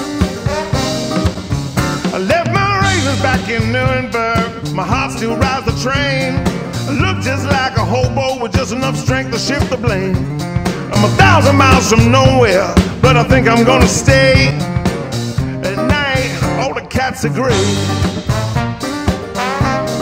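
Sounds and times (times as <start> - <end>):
bass: 0.0 - 20.0
steady drum beat: 0.0 - 20.0
man singing: 2.0 - 18.3.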